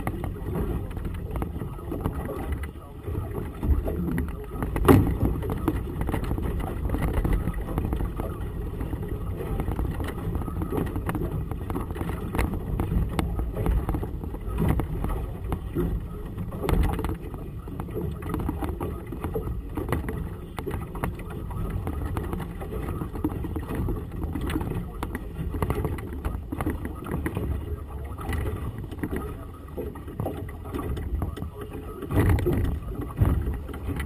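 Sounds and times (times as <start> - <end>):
water slapping against boat hull: 0.0 - 34.0
wind on microphone: 0.0 - 34.0.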